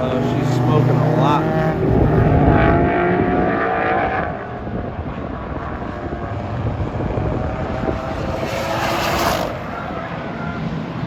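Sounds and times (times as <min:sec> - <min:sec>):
distant engine and track noise: 0:00.0 - 0:11.0
race car engine passing: 0:00.0 - 0:11.0.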